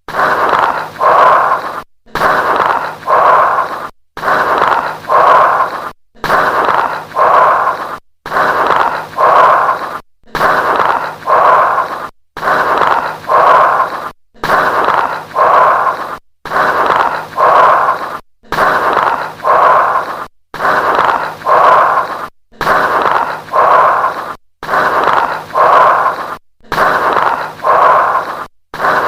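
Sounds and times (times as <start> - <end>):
breath sounds through stethoscope: 0.0 - 29.0
lung crackles: 0.0 - 29.0.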